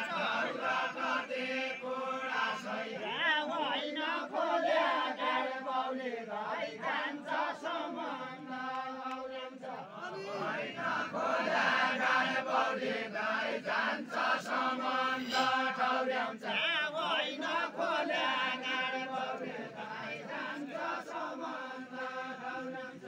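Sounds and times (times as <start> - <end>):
group singing folk song: 0.0 - 23.0.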